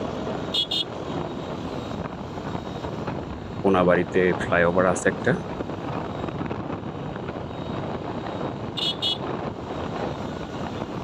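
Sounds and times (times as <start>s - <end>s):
motorcycle road noise: 0.0s - 11.0s
wind on microphone: 0.0s - 11.0s.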